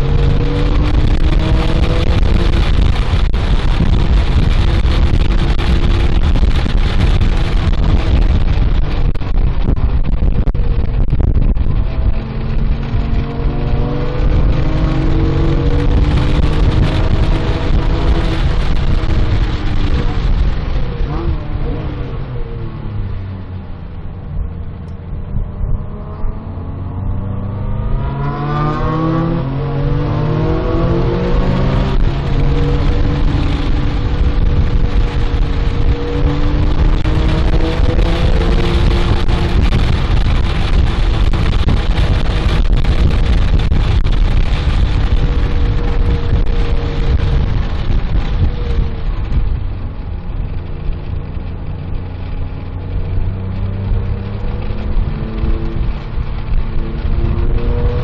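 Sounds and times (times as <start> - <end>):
car engine revving hard: 0.0 - 9.6, 11.1 - 22.5, 25.1 - 49.7, 50.3 - 58.0
wind and road noise: 0.0 - 58.0.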